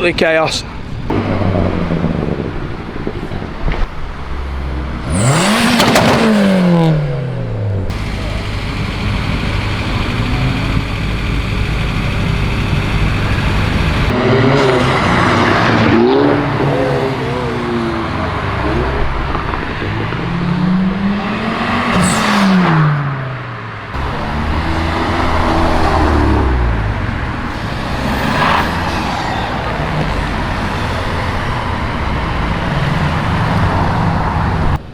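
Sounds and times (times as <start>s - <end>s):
cars revving and accelerating past: 0.0s - 34.9s.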